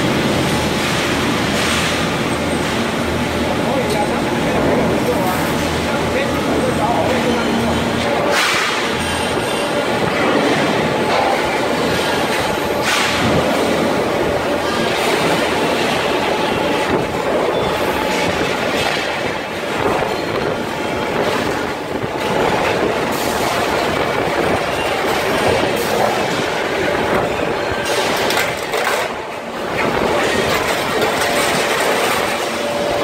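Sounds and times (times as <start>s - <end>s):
stamping press clatter and rumble: 0.0s - 33.0s.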